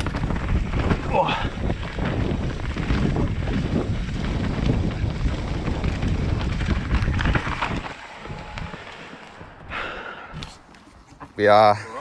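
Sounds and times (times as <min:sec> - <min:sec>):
mountain bike rattling over trail: 0:00.0 - 0:12.0
wind buffeting microphone: 0:00.0 - 0:12.0.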